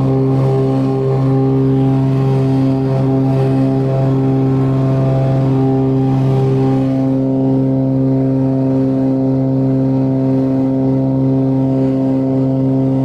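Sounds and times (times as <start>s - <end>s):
aircraft engines droning in cabin: 0.0s - 13.0s.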